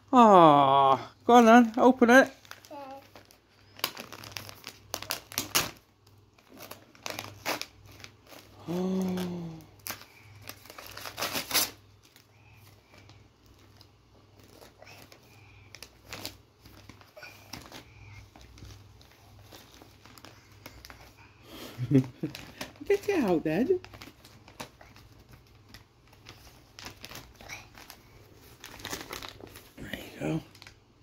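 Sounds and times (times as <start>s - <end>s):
wrapping paper crinkling and tearing: 1.5s - 30.8s.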